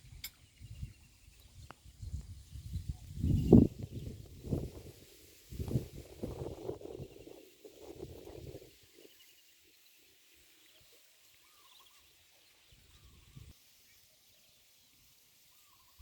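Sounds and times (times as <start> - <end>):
faint bird chirps: 0.0 - 4.6, 6.4 - 16.0.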